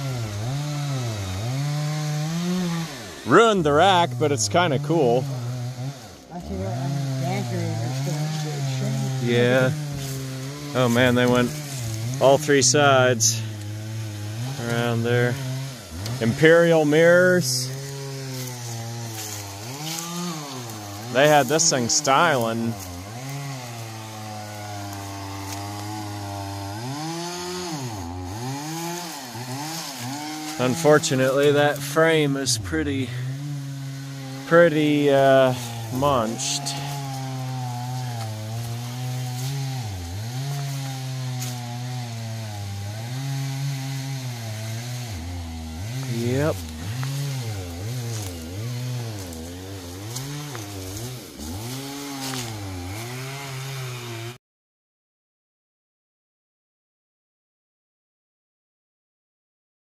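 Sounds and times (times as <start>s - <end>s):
engine running and revving: 0.0s - 54.4s.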